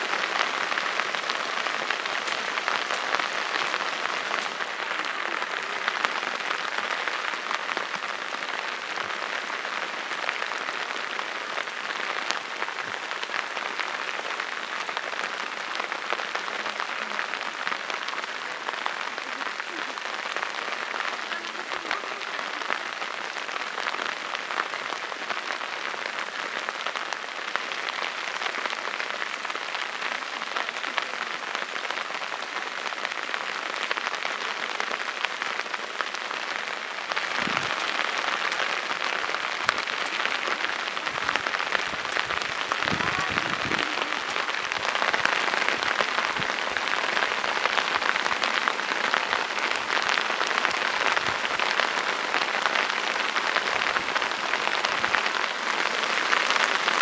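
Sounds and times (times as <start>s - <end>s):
rain falling on water: 0.0s - 57.0s.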